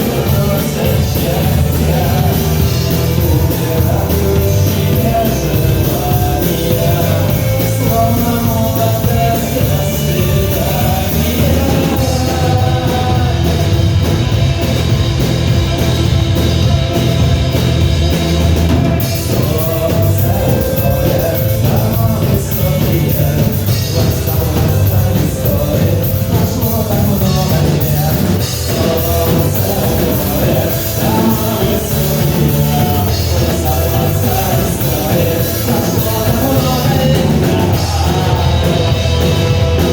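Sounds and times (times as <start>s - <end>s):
rock song with singing: 0.0s - 39.9s.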